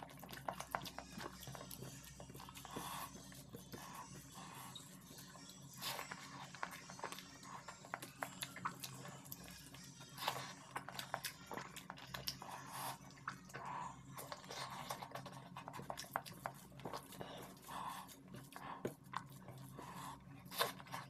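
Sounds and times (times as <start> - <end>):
wet chewing and lip smacks: 0.0 - 21.0.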